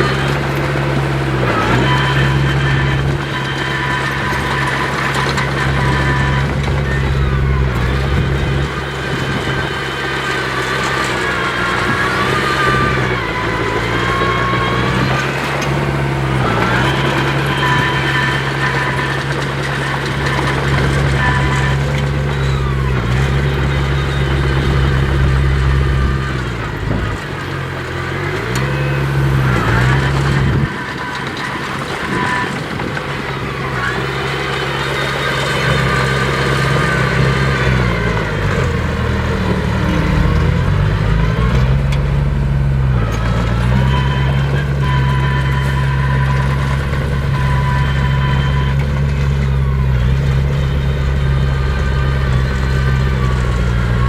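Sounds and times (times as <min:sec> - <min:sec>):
engine whine: 0:00.0 - 0:54.0
heavy diesel machinery running: 0:00.0 - 0:54.0.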